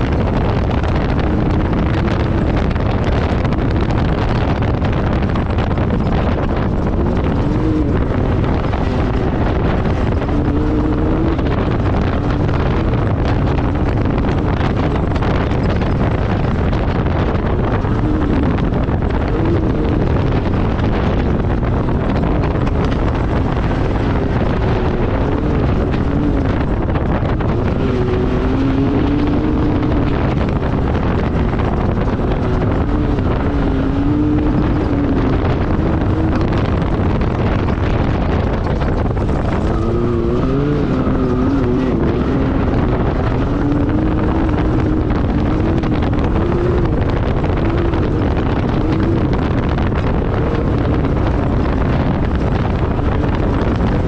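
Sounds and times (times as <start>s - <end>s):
engine revving: 0.0s - 54.0s
wind buffeting microphone: 0.0s - 54.0s.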